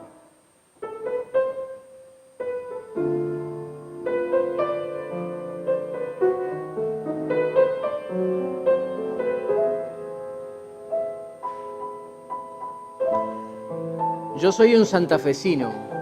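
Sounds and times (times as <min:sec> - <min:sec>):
piano playing chords: 0:00.0 - 0:16.0.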